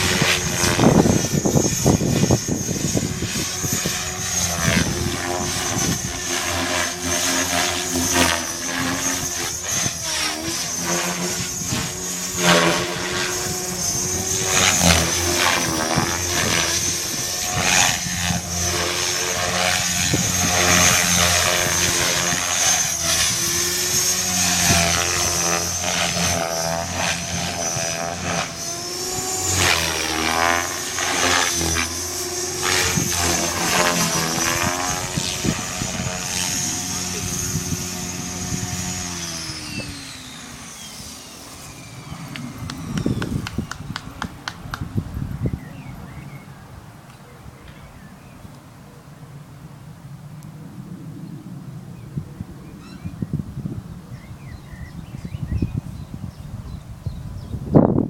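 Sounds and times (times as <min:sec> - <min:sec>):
helicopter motor and rotor whine: 0:00.0 - 0:58.0.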